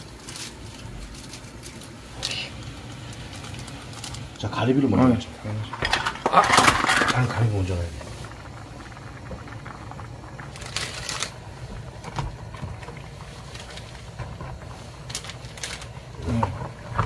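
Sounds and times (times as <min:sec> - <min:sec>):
noodles crackling and knocking: 0:00.0 - 0:04.5, 0:05.5 - 0:17.0
broth bubbling in a pan: 0:00.0 - 0:17.0.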